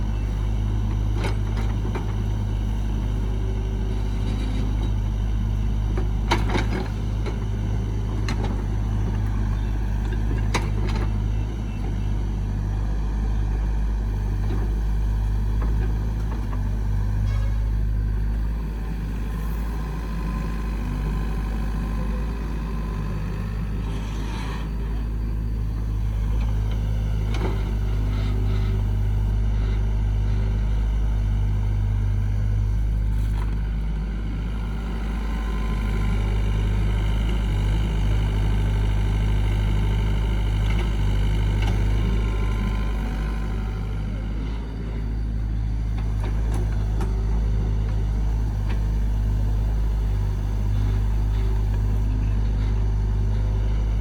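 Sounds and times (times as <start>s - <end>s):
heavy engine rumbling: 0.0s - 54.0s.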